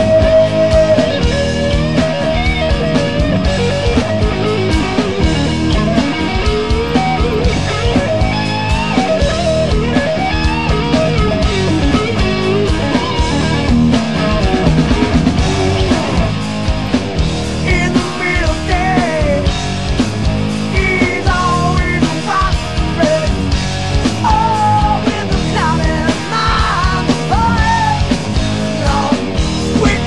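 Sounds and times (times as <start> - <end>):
bass: 0.0 - 30.0
drums: 0.0 - 30.0
electric guitar lead: 0.0 - 30.0.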